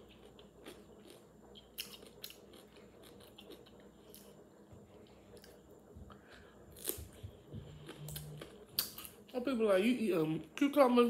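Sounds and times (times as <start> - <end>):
person chewing food: 0.0 - 9.3.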